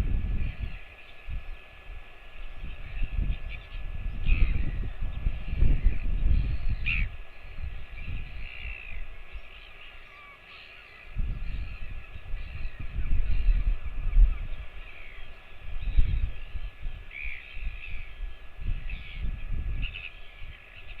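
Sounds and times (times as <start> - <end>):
gusty wind rumble: 0.0 - 9.7, 11.1 - 21.0
bird calls: 2.3 - 21.0.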